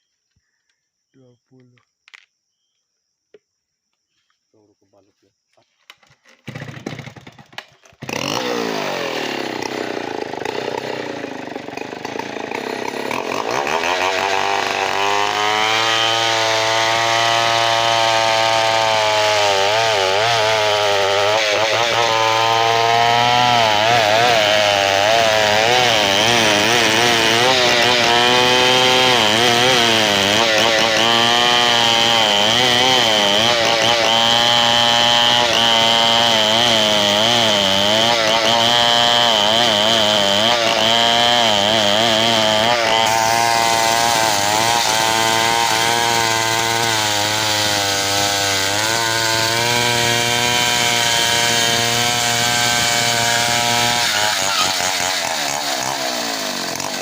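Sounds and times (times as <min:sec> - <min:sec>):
chainsaw cutting log: 0:05.8 - 0:57.0.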